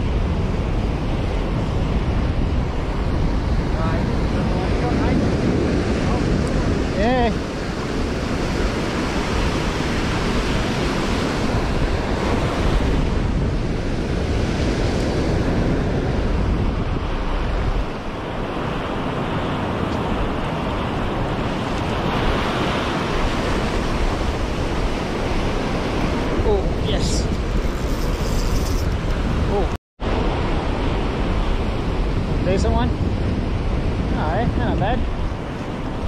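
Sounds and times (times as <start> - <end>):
ocean surf breaking: 0.0 - 36.0
wind buffeting microphone: 0.0 - 36.0.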